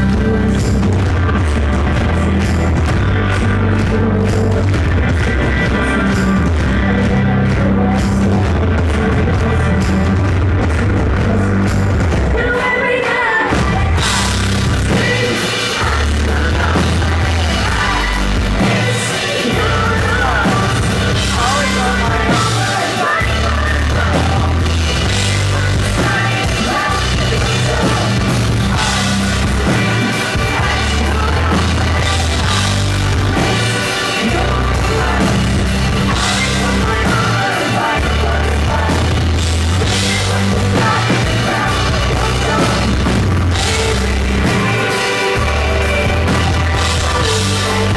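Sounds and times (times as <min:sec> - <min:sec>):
heavy pulsing bass: 0:00.0 - 0:12.6, 0:13.5 - 0:47.9
drums: 0:00.0 - 0:47.9
electric guitar: 0:00.0 - 0:47.9
woman singing: 0:00.0 - 0:47.9.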